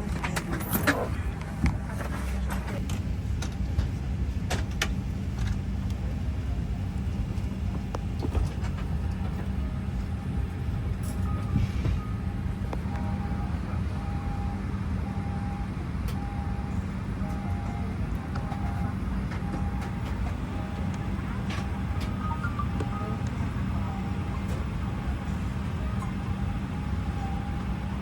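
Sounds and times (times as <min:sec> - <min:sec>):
aircraft cabin rumble: 0:00.0 - 0:28.0.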